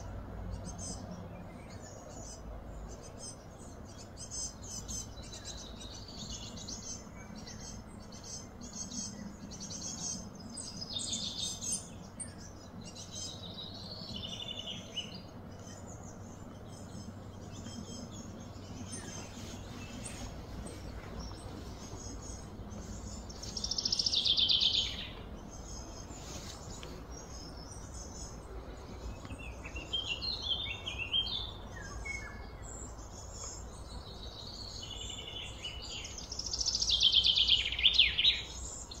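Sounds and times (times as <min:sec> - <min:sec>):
outdoor background hum: 0:00.0 - 0:39.0
bird chirps: 0:00.5 - 0:39.0.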